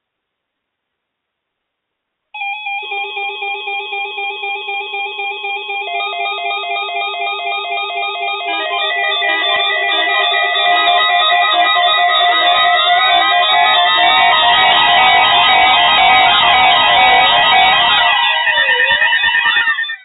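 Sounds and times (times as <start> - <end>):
repeating melodic music: 2.4 - 20.0.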